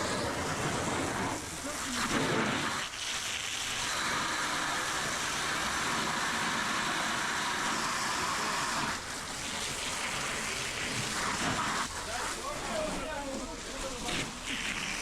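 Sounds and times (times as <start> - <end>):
fire hose spraying water: 0.0 - 15.0.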